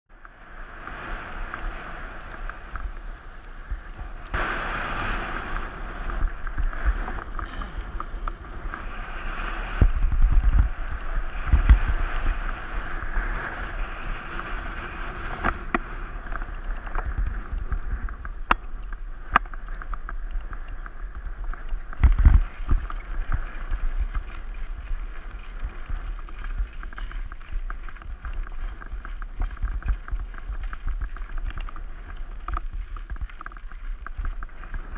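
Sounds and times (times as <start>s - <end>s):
bike tyres rolling on gravel: 0.1s - 34.9s
wind noise: 0.1s - 34.9s
bike rattles and clicks: 0.2s - 34.9s.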